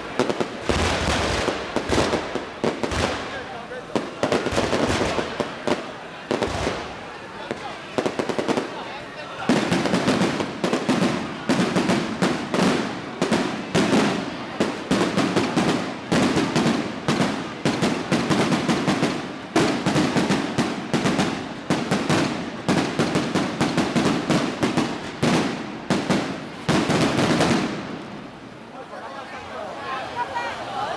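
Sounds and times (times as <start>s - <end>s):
firecrackers going off: 0.0s - 28.7s.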